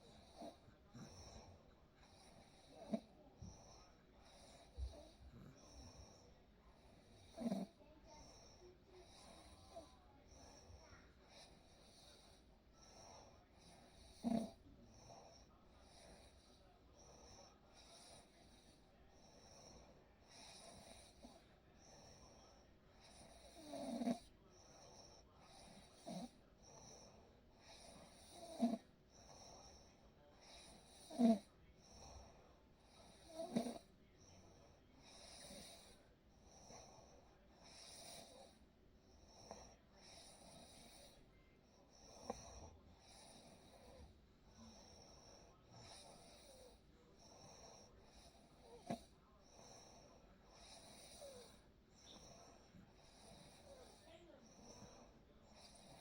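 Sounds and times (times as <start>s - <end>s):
faint breathing: 0.0s - 56.0s.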